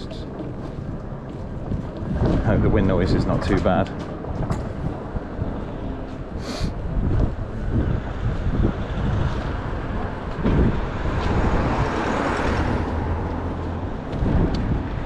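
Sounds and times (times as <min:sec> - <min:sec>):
road traffic: 0:00.0 - 0:15.0
vehicle passing: 0:00.0 - 0:15.0
wind rumble on microphone: 0:00.0 - 0:15.0.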